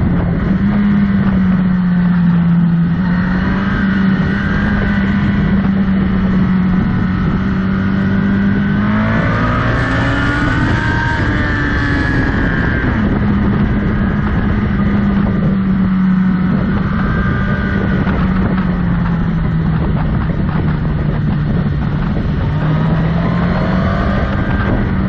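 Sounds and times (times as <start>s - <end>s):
motorcycle engine running: 0.0s - 25.0s
wind rushing over microphone: 0.0s - 25.0s.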